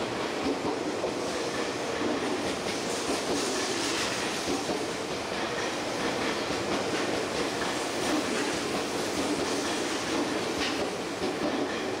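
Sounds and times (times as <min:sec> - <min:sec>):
electric train wheels on rails: 0:00.0 - 0:12.0.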